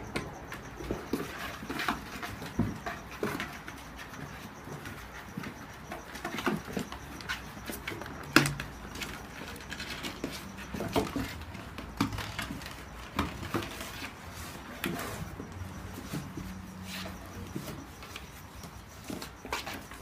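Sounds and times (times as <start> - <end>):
puppies scrabbling in cardboard box: 0.3 - 20.0.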